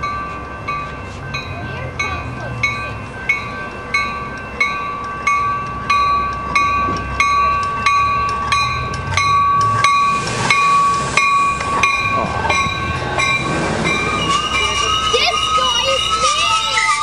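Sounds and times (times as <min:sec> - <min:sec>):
railroad crossing bell ringing: 0:00.0 - 0:17.0
train rumble: 0:00.0 - 0:17.0.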